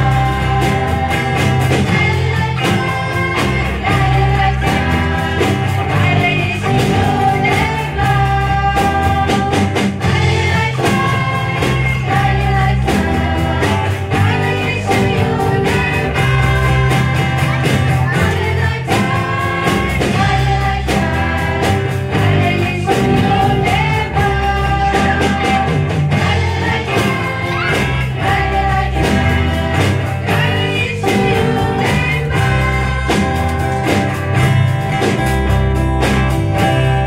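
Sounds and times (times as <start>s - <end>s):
vocal group singing: 0.0s - 34.8s
instrumental accompaniment: 0.0s - 37.0s
steady drum beat: 0.0s - 37.0s.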